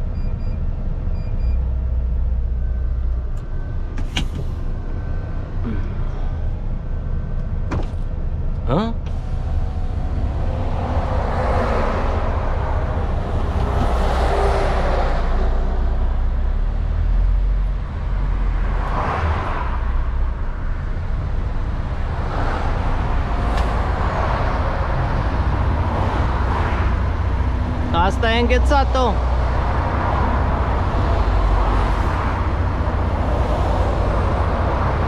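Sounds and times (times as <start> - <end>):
diesel engine rumbling: 0.0 - 35.0
road and traffic noise: 0.0 - 35.0.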